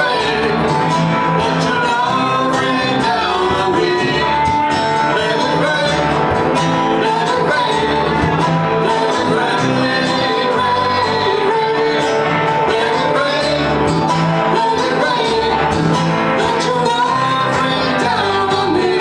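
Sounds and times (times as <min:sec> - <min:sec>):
person singing: 0:00.0 - 0:06.2, 0:06.9 - 0:19.0
acoustic guitars: 0:00.0 - 0:19.0
electric bass: 0:00.0 - 0:19.0.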